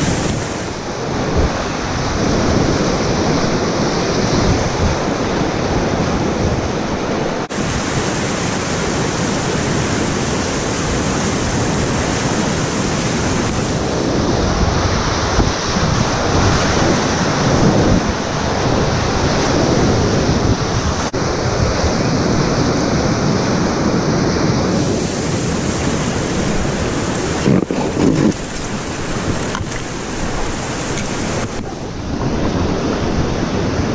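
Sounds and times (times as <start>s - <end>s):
whitewater rapids roaring: 0.0s - 33.9s.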